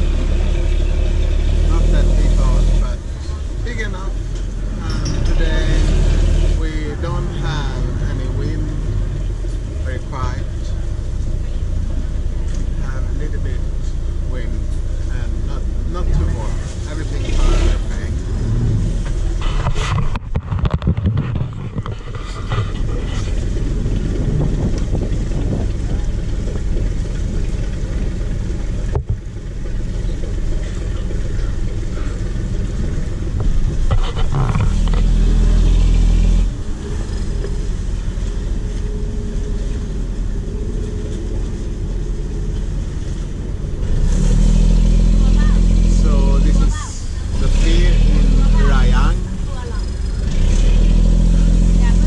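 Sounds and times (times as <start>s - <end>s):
boat engine rumbling: 0.0s - 52.0s.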